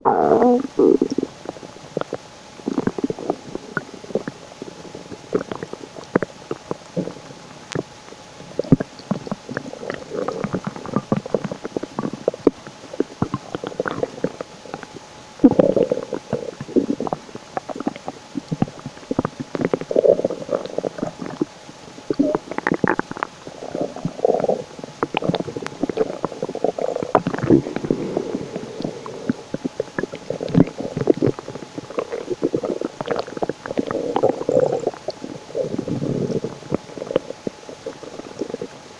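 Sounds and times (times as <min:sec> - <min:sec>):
stomach gurgling and rumbling: 0:00.0 - 0:38.9.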